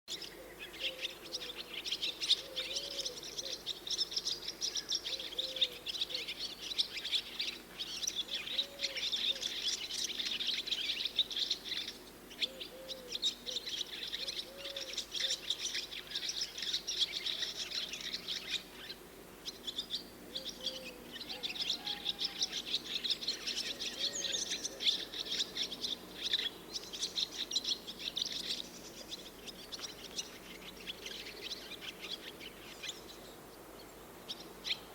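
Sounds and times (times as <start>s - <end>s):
low soft bird call: 0.1s - 34.9s
swallows twittering: 0.1s - 34.9s.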